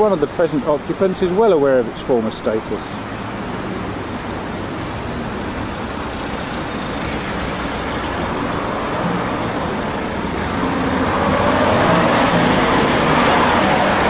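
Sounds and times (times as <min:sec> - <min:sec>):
cars driving past: 0:00.0 - 0:14.0
engine and tyre noise: 0:00.0 - 0:14.0.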